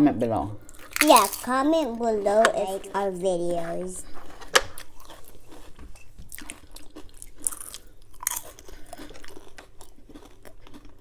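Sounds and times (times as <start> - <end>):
chewing crunchy potato chips: 0.6 - 2.9, 4.0 - 11.0.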